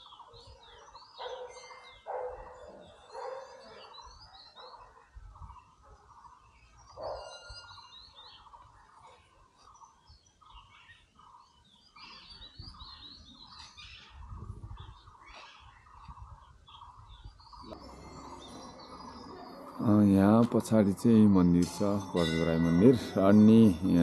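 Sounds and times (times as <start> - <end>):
birds calling: 0.0 - 24.0
higher bird chirps and twitters: 0.0 - 24.0.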